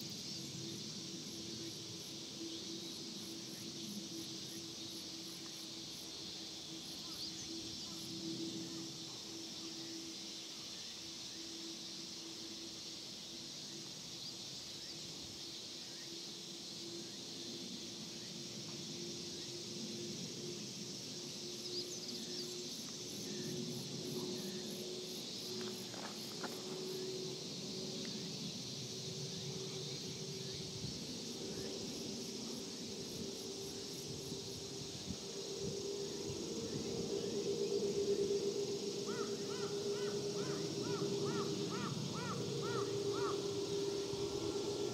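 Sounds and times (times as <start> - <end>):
jet airliner rumble overhead: 0.0 - 11.2, 16.3 - 44.9
chorus of insects: 0.0 - 44.9
high pulsing insect trill: 0.0 - 44.9.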